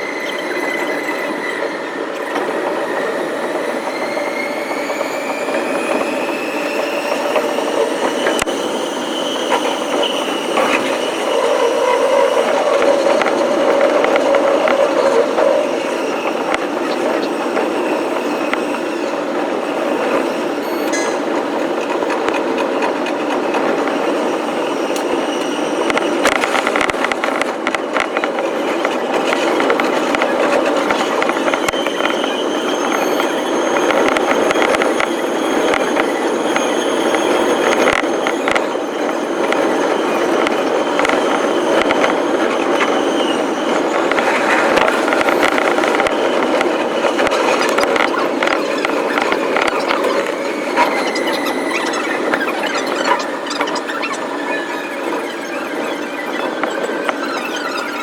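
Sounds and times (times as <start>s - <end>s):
train rumbling on rails: 0.0s - 58.0s
train wheels clicking over track: 0.0s - 58.0s.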